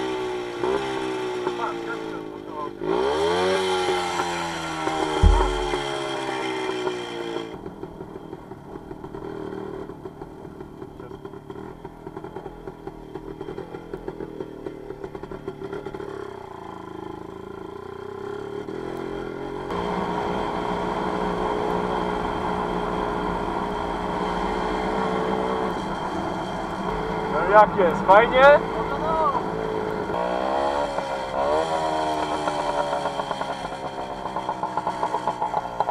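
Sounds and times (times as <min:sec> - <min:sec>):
two-stroke motorcycle engine: 0:00.0 - 0:35.9.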